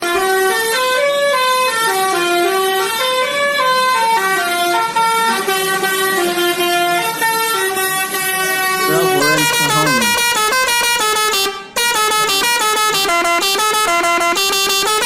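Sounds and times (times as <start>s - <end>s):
truck musical horn playing tune: 0.0s - 15.0s.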